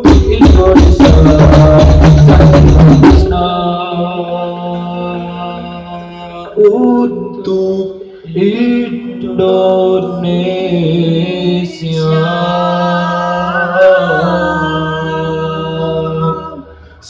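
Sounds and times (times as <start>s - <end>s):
male a cappella group singing: 0.0s - 17.0s.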